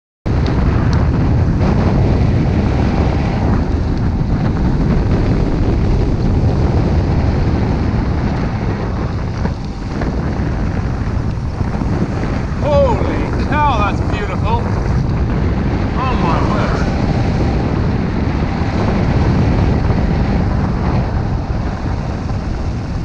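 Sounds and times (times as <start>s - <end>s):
wind rushing over microphone: 0.3s - 23.0s.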